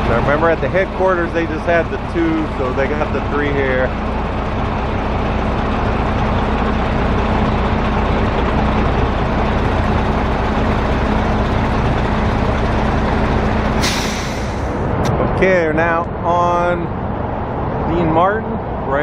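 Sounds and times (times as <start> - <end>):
engine rumbling: 0.0 - 19.0
road traffic noise: 0.0 - 19.0.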